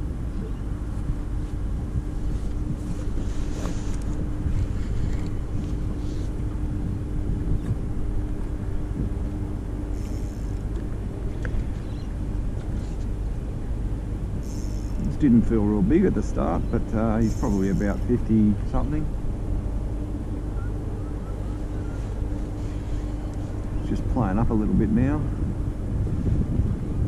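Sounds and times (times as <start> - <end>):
steady low hum: 0.0 - 27.0
wind buffeting microphone: 0.0 - 27.0.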